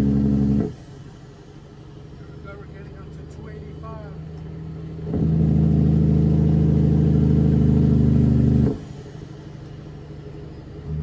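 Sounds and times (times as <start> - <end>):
loud low-pitched truck sound: 0.0 - 11.0
truck engine idling: 0.0 - 11.0.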